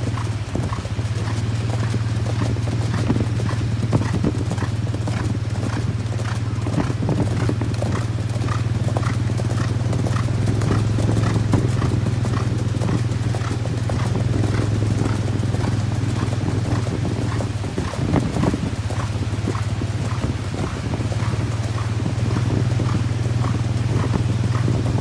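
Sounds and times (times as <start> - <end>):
horse hooves clip-clopping on road: 0.0 - 25.0.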